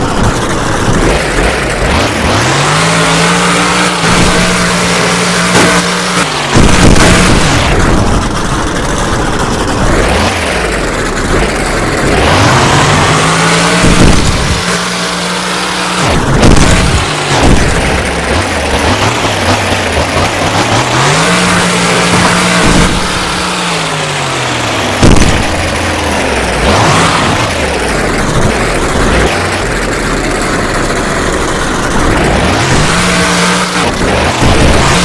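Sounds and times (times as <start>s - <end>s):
loud bangs: 0.0s - 35.0s
monster truck engine revving: 0.0s - 35.0s.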